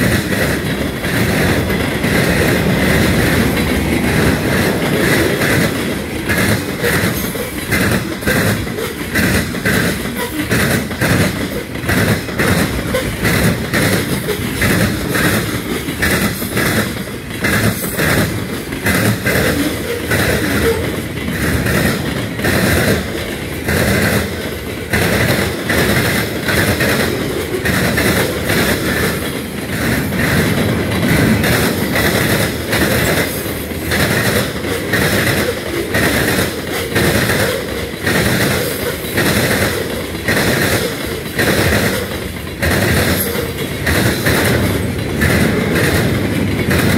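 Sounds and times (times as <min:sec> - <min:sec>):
train wheels rumbling on rail: 0:00.0 - 0:46.9
wheels clacking over rail joints: 0:00.0 - 0:46.9.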